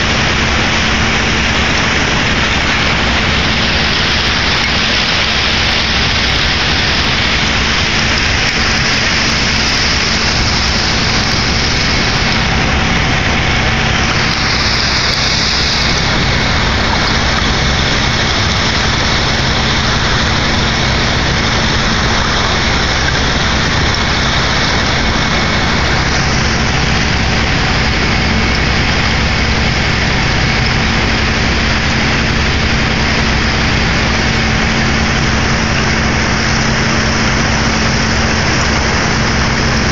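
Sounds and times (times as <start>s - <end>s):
ship engines running: 0.0s - 39.9s
water and ice churning: 0.0s - 39.9s.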